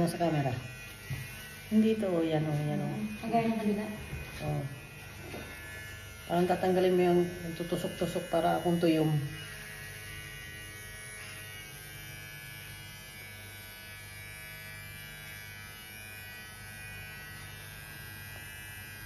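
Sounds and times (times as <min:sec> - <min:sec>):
electric hair clipper humming: 0:00.0 - 0:19.0.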